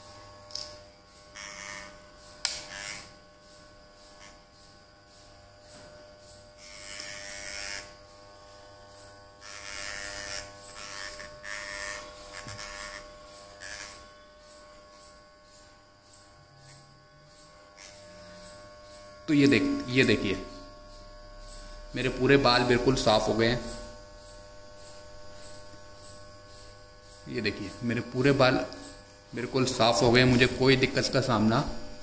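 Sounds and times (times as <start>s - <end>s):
electric hair clipper buzzing: 0.0s - 32.0s.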